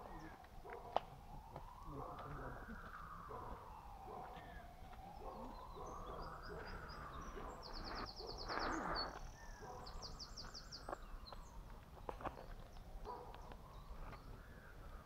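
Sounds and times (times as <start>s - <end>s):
songbird singing trills: 2.6s - 15.0s.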